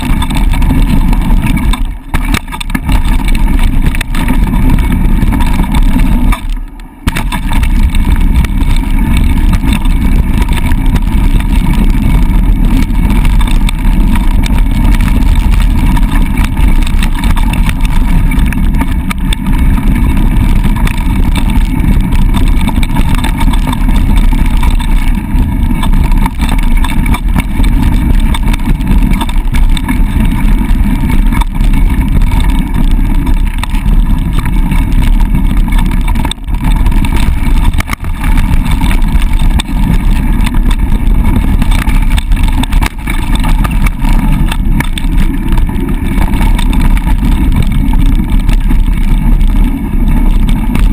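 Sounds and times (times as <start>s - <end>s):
bike tyre rumble on dirt: 0.0s - 50.9s
wind buffeting microphone: 0.0s - 50.9s.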